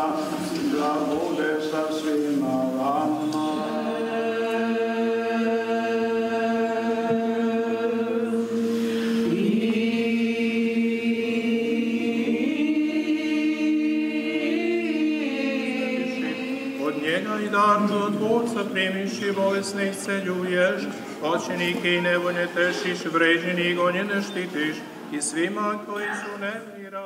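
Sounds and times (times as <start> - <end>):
choir chanting a hymn: 0.0 - 27.0.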